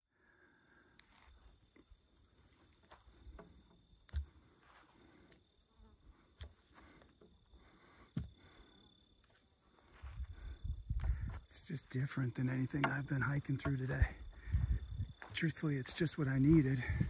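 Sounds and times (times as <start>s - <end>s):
insects trilling: 0.2s - 17.0s.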